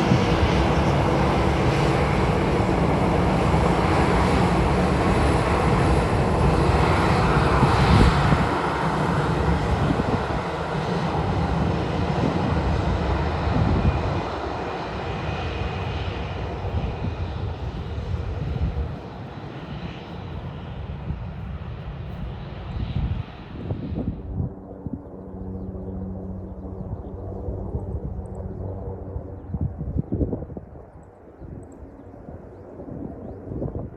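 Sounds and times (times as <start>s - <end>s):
jet engines at taxi power: 0.0s - 33.9s
wind buffeting microphone: 0.0s - 33.9s.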